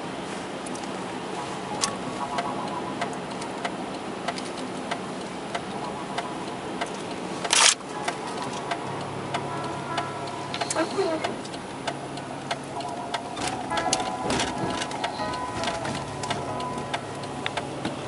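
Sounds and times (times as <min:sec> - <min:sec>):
road and engine noise inside car: 0:00.0 - 0:18.0
light ticking: 0:01.8 - 0:18.0.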